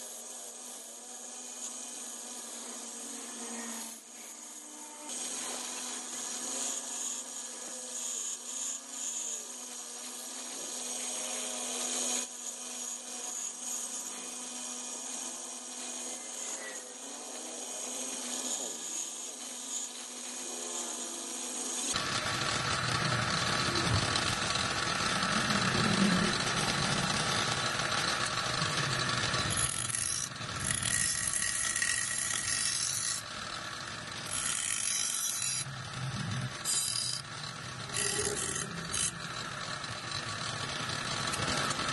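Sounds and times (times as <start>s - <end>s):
bench grinder grinding steel: 0.0s - 41.9s.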